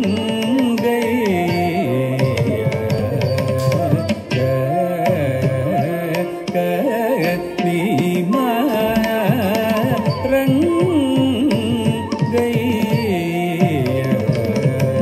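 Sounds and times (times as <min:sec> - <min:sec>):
person singing ornamented melody: 0:00.0 - 0:15.0.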